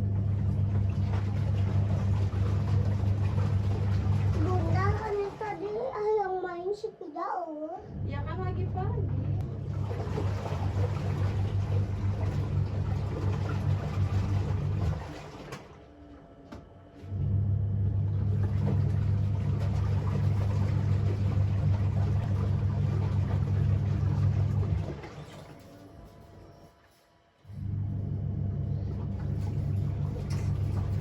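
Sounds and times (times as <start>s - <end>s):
motor humming: 0.0s - 6.9s, 7.8s - 26.8s, 27.5s - 31.0s.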